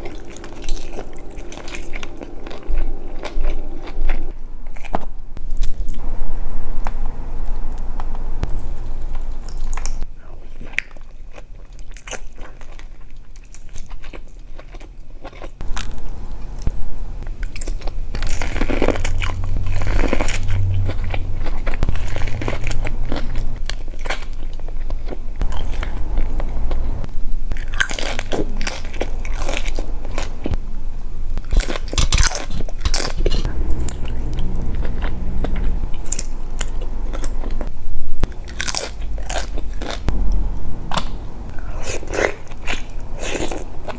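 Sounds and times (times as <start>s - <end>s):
biting chewing and crunching food: 8.0s - 43.9s.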